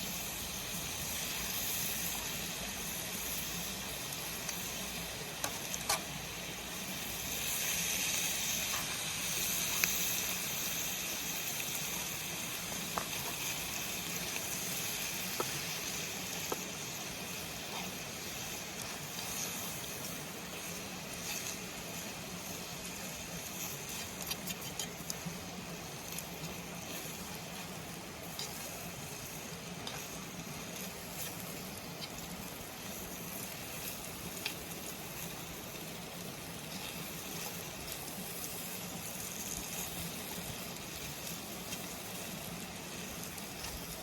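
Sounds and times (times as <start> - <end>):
campfire crackling: 0.0 - 44.0
food sizzling in a pan: 0.0 - 44.0.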